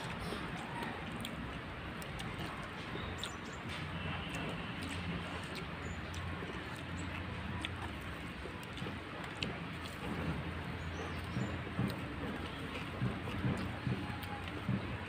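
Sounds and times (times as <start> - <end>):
chewing: 0.0 - 15.0
fingers clicking against plates: 0.1 - 15.0.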